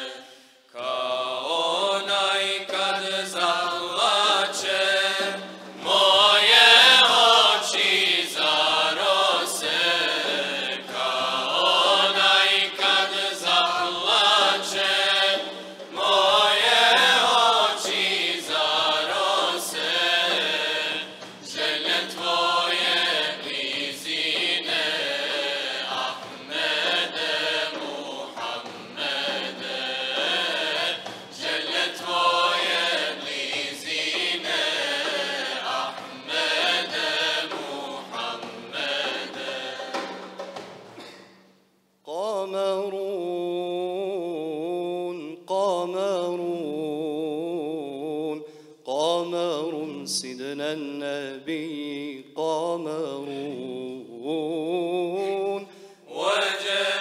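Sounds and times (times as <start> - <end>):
male choir singing a hymn: 0.0 - 40.6, 42.1 - 57.0.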